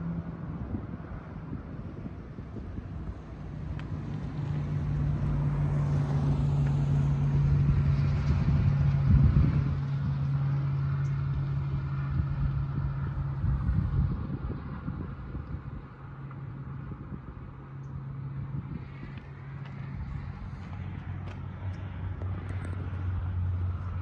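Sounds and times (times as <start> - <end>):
vehicle engine running: 0.0 - 24.0
wind rumble: 0.0 - 24.0.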